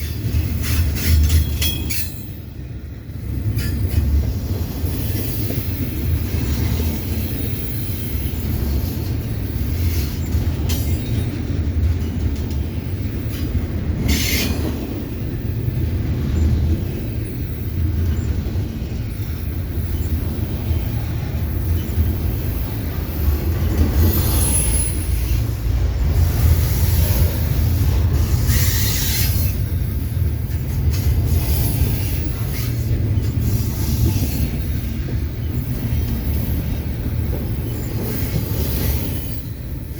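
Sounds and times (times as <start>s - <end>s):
freight train wheels rumbling on rail: 0.0s - 39.9s
train cars clattering: 0.0s - 39.9s.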